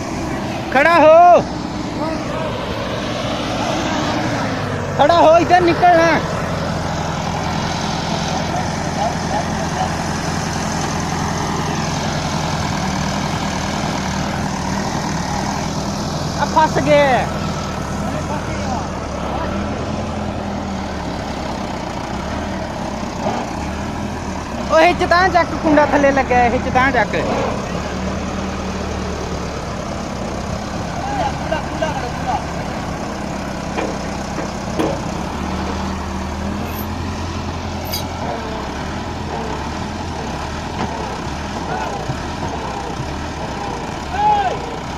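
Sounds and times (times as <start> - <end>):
diesel tractor engines running: 0.0 - 44.9.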